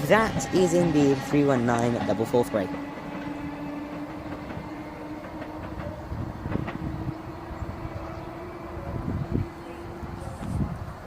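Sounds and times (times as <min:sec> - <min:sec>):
electric train hum: 0:00.0 - 0:11.0.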